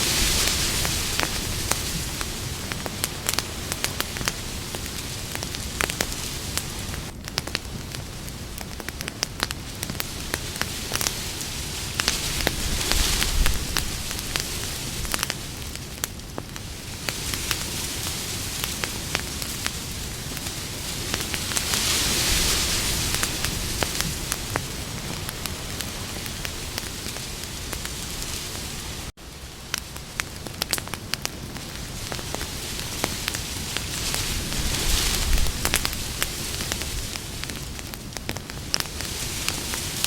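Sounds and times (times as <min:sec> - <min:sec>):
campfire hissing: 0:00.0 - 0:40.0
wood crackling and popping: 0:00.0 - 0:40.0.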